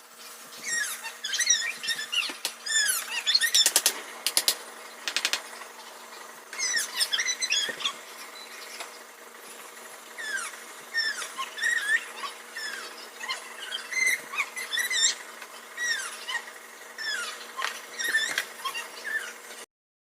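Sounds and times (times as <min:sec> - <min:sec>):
small animal chirping and squeaking: 0:00.2 - 0:19.5.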